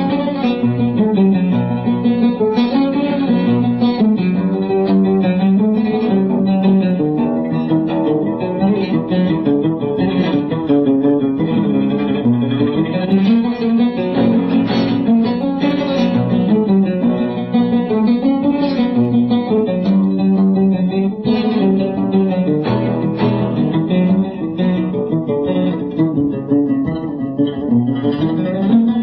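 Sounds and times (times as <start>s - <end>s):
oud playing plucked notes: 0.0s - 29.0s.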